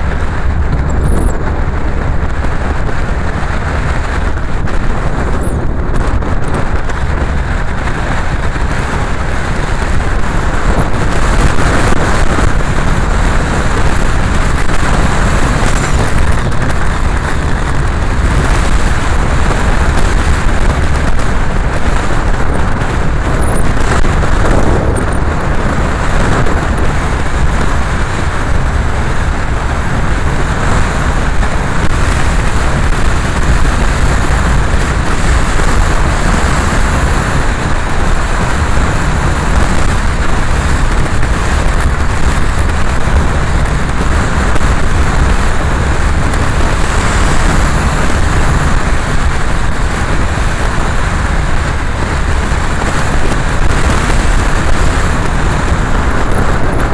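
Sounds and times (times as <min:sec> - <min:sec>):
car engine and road noise: 0:00.0 - 0:56.9
tyres on wet road: 0:00.0 - 0:56.9.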